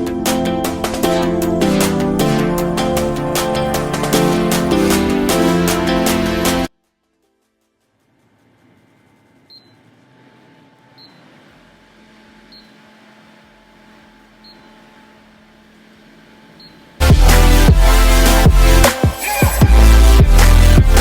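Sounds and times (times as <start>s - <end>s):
fan whirring: 0.0s - 6.7s, 8.0s - 21.0s.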